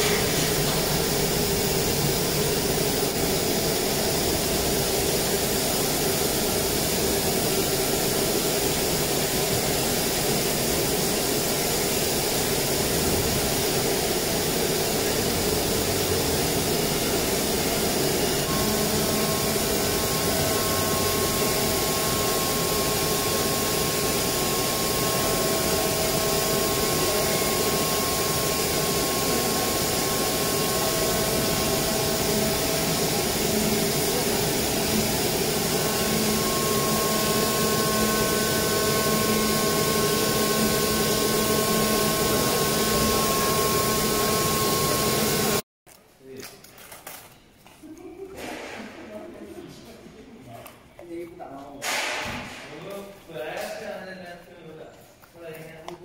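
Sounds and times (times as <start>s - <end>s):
cnc router drone: 0.0s - 45.6s
high steady whine: 0.0s - 45.6s.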